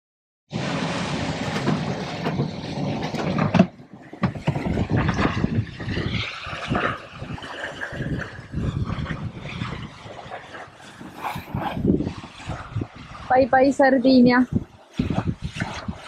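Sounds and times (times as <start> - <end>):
water rushing in boat wake: 0.5 - 16.0
wind buffeting microphone: 0.6 - 16.0.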